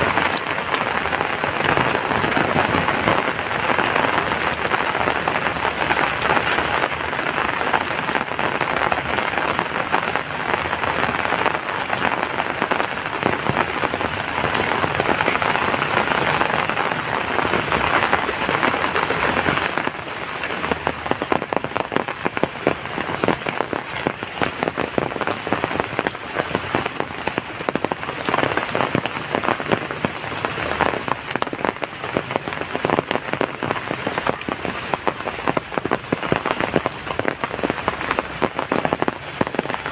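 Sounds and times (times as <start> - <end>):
heavy rain hissing: 0.0 - 39.9
patter of raindrops: 0.0 - 39.9.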